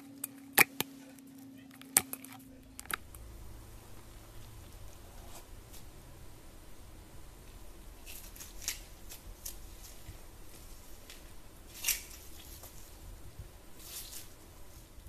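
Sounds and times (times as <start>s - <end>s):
foil stress ball crinkling: 0.0s - 5.9s, 7.4s - 15.0s
low steady hum: 0.0s - 15.0s.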